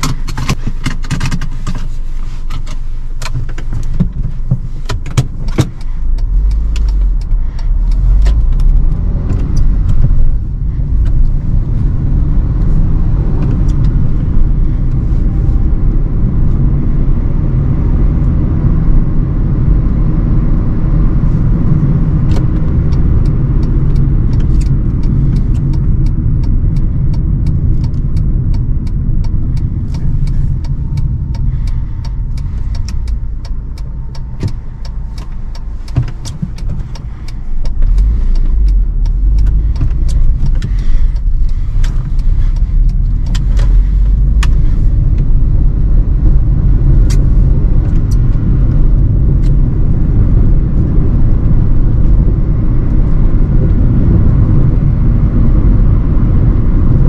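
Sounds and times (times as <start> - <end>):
sharp clicks and ticks: 0.0 - 17.2, 21.0 - 57.0
car engine and road rumble: 0.0 - 57.0.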